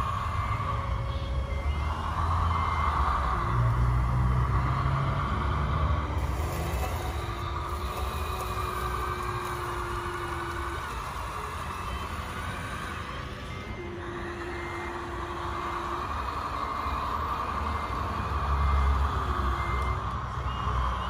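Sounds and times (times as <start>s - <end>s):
rc truck engine rumble: 0.0s - 21.0s.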